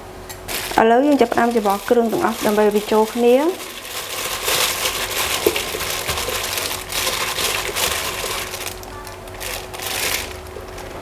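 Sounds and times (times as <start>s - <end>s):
crinkling crunching noises: 0.3s - 11.0s.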